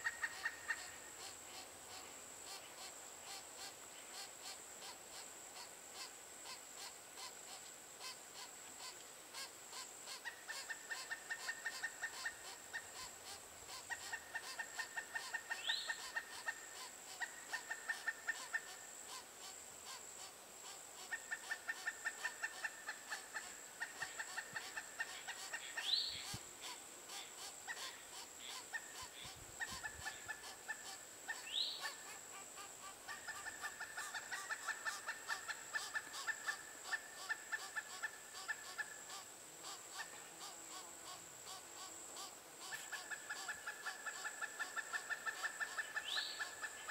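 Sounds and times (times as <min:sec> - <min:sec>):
woodpeckers calling: 0:00.0 - 0:20.3, 0:21.0 - 0:41.6, 0:42.2 - 0:46.9.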